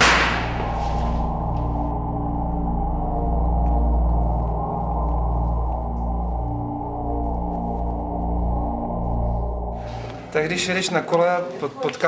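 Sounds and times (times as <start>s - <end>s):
dark ambient droning music: 0.0s - 11.2s.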